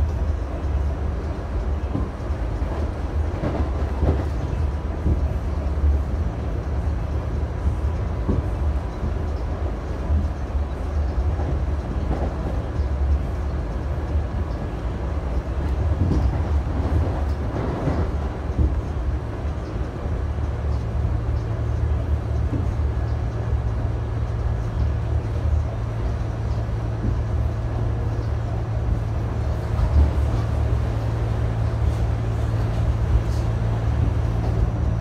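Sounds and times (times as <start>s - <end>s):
subway wheels rumbling on rail: 0.0s - 35.0s.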